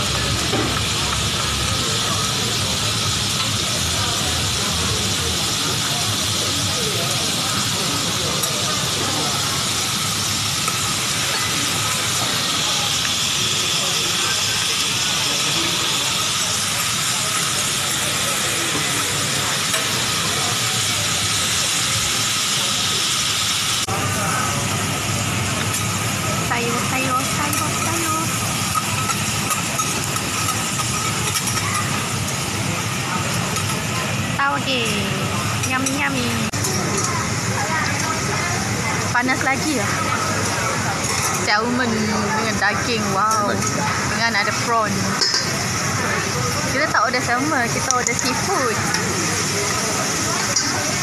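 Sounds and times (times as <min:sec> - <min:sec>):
bean sprouts sizzling on griddle: 0:00.0 - 0:51.0.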